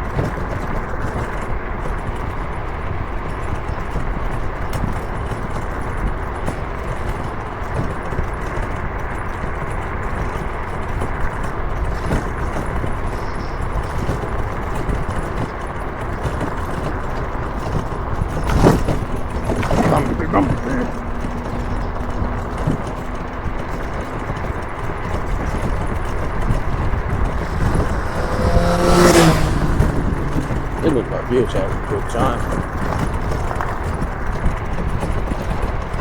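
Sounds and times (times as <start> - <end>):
wind and road rumble: 0.0 - 36.0.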